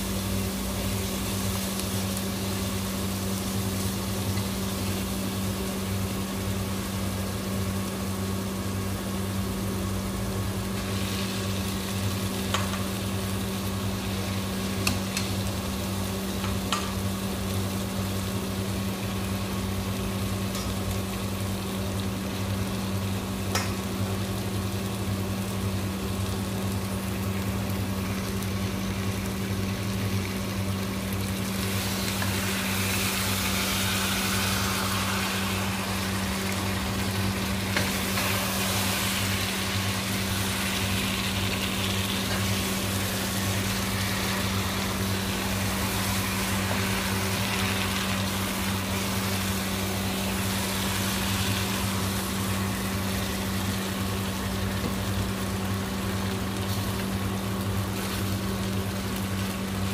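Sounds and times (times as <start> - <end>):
food sizzling in a pan: 0.0 - 59.9
steady low hum: 0.0 - 59.9.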